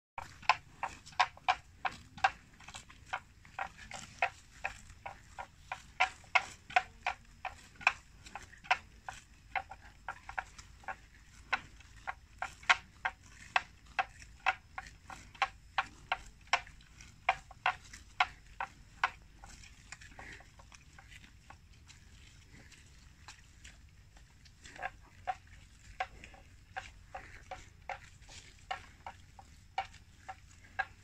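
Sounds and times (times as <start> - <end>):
buffalo tearing grass: 0.2 - 31.0.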